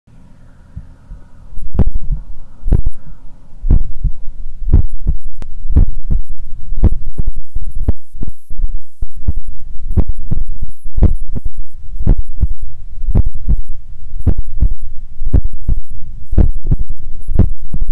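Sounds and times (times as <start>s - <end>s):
high scratchy noise: 0.8s - 17.9s
heartbeat thumps: 1.5s - 17.9s.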